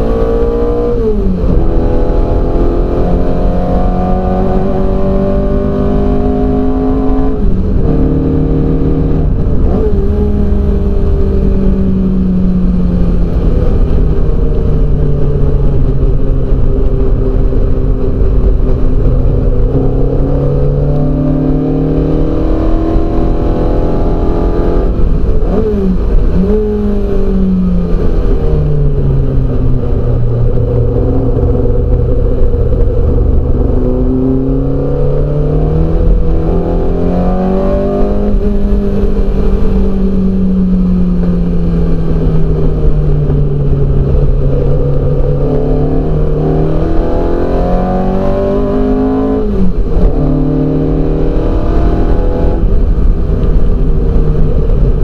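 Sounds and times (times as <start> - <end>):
car engine revving through gears: 0.0 - 55.0
engine blips on downshifts: 0.0 - 55.0.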